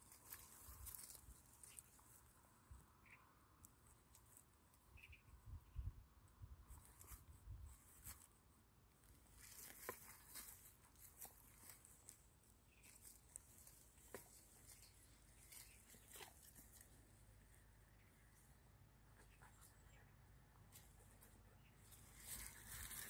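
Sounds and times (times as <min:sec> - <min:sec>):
faint rustles and crackles: 0:00.0 - 0:04.8, 0:06.6 - 0:18.4, 0:20.6 - 0:23.0.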